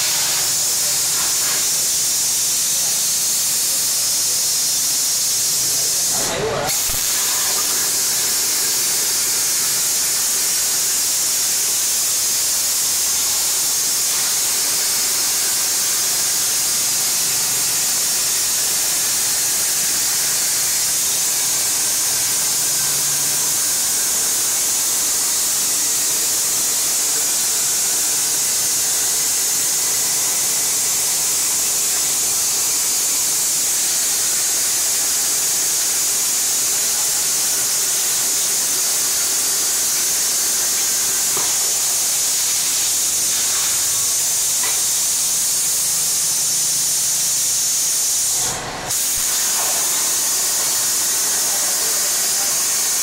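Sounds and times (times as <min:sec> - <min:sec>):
plasma cutter hissing: 0:00.0 - 0:53.0.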